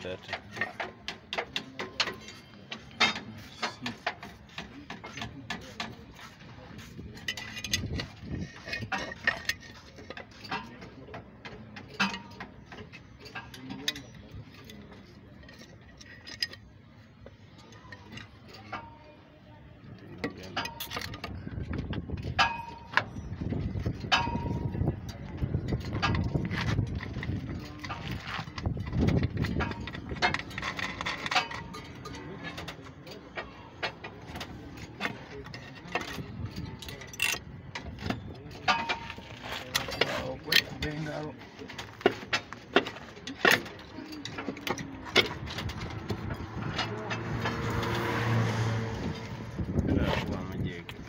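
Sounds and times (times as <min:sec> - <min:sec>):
metal clinks and knocks: 0:00.0 - 0:51.0.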